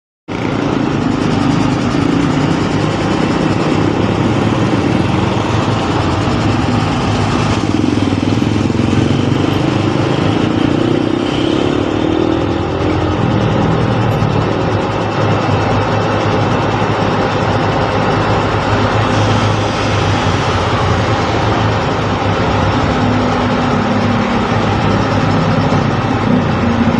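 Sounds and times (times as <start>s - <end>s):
motorcycles: 0.3s - 26.9s
traffic engine noise: 0.3s - 26.9s.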